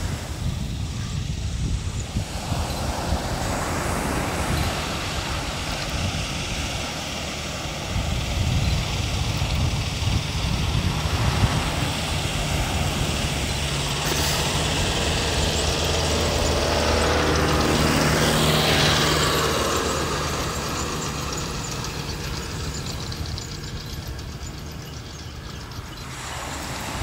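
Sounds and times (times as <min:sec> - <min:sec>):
low engine drone passing by: 0:00.0 - 0:27.0.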